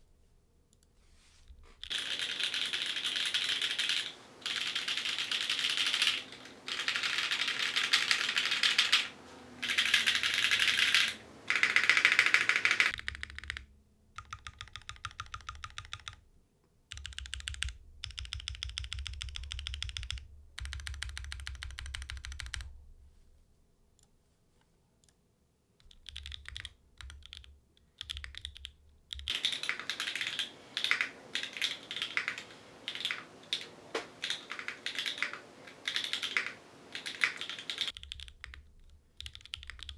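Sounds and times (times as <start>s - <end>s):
mechanical keyboard typing: 1.8s - 16.2s, 16.9s - 22.7s, 25.8s - 39.9s.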